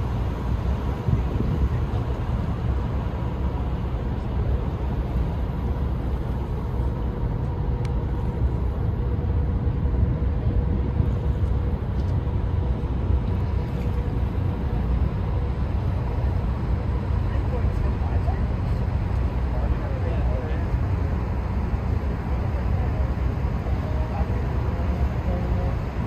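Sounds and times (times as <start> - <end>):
low engine rumble: 0.0 - 26.0
water: 0.0 - 26.0
wind: 0.0 - 26.0.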